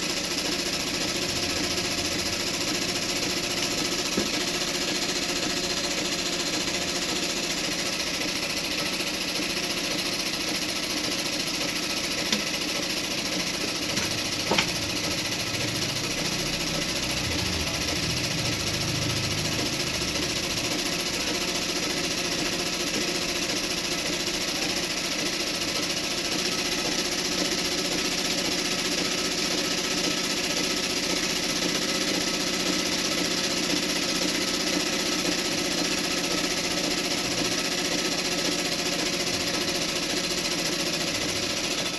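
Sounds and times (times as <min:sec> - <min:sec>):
sewing machine whirring: 0:00.0 - 0:41.9.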